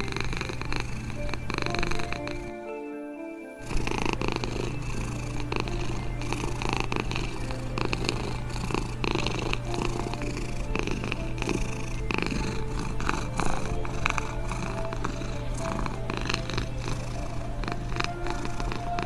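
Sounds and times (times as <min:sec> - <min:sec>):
cat purring: 0:00.0 - 0:02.6, 0:03.6 - 0:19.0.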